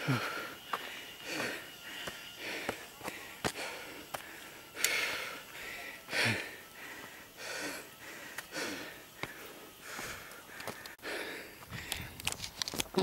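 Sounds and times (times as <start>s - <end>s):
person breathing close up: 0.0s - 12.4s.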